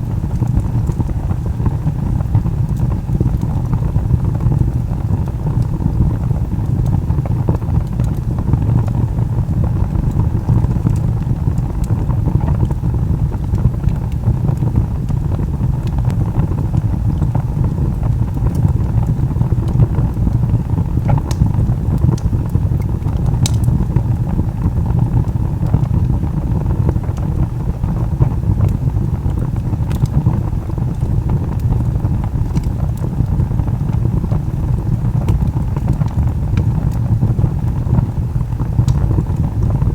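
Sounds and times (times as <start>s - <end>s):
burning log crackling: 0.0s - 39.9s
roar of fire flames: 0.0s - 39.9s.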